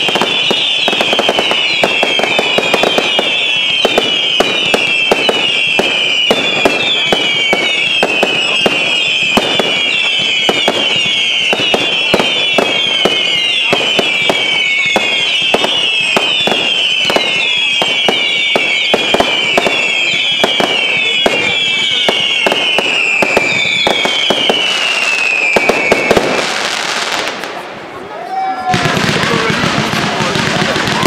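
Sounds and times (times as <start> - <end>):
firework whistles falling in pitch: 0.0 - 27.1
firework bangs: 0.0 - 31.0.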